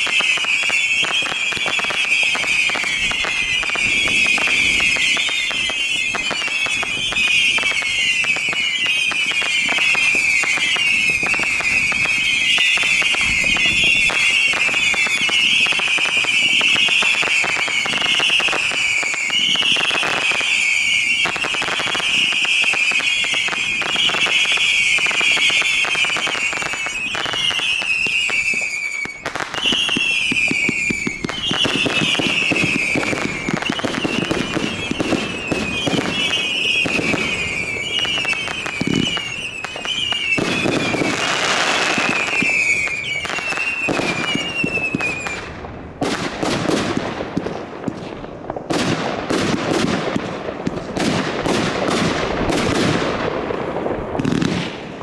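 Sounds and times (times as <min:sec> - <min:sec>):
fireworks crackling and popping: 0:00.0 - 0:55.0
whistling fireworks: 0:00.0 - 0:55.0.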